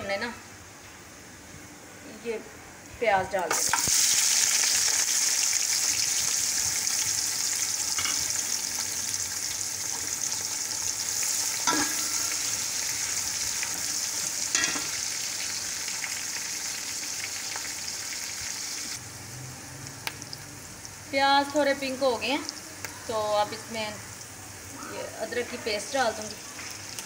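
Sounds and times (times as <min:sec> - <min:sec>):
onions sizzling in hot oil: 0:03.3 - 0:27.0.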